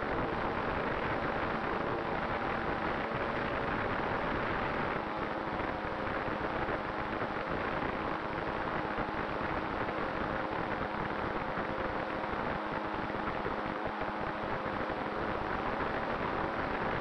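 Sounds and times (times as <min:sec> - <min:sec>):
faint motor and propeller hum: 0:00.0 - 0:17.0.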